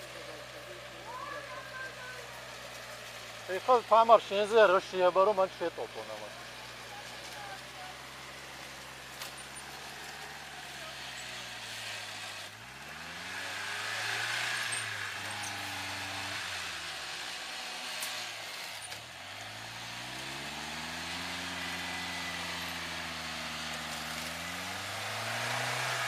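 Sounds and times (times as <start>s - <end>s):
engine at raised revs: 0.0s - 26.0s.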